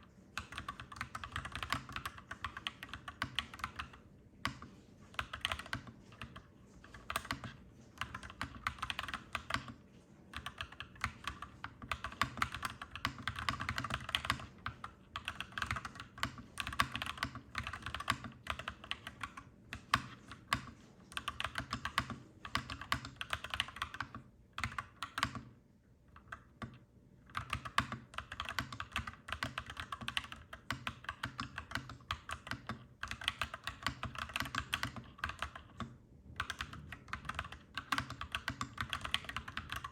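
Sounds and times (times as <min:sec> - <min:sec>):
clacky mechanical keyboard typing: 0:00.4 - 0:25.5, 0:26.1 - 0:39.9.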